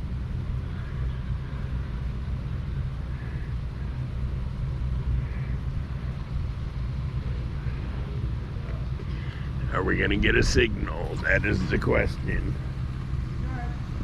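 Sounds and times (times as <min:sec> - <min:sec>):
low motor rumble: 0:00.0 - 0:14.0.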